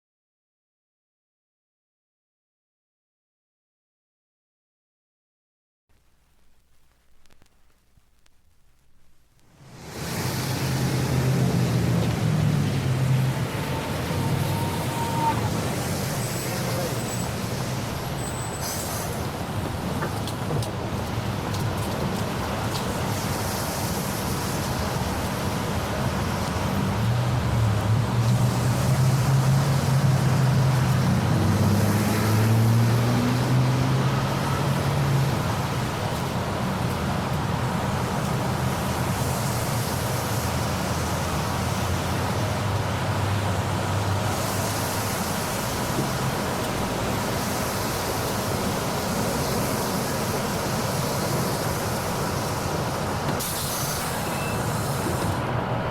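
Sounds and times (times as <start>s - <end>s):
passing vehicles: 9.6s - 55.9s.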